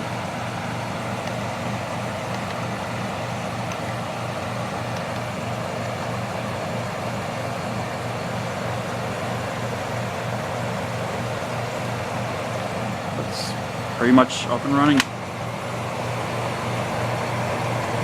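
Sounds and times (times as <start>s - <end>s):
compressor hum: 0.0s - 18.0s
fan rushing: 0.0s - 18.0s.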